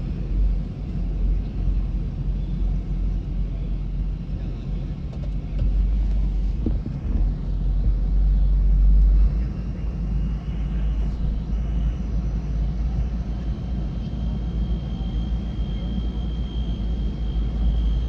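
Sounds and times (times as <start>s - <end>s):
diesel pickup engine rumbling: 0.0s - 18.0s
faint high whine: 0.0s - 18.0s.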